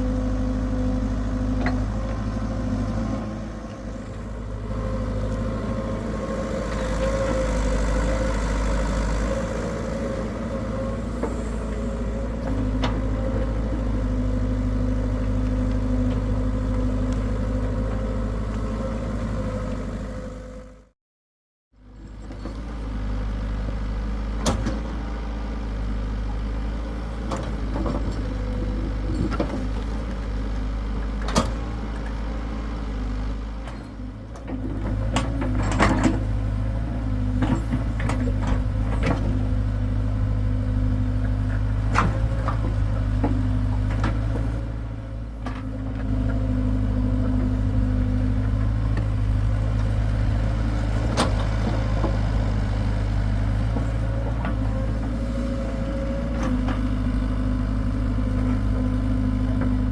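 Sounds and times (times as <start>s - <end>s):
excavator diesel engine running: 0.0s - 20.9s, 21.8s - 59.9s.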